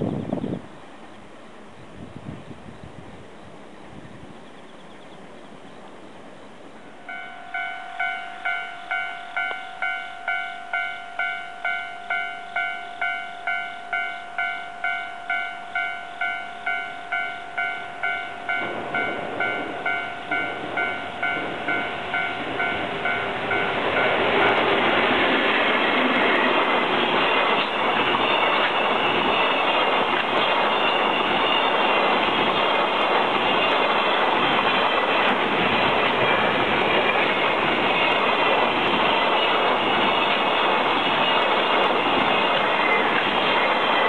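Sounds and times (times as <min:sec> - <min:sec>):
level-crossing warning bell ringing: 0:07.0 - 0:44.0
freight train rumbling and clattering: 0:07.1 - 0:44.0.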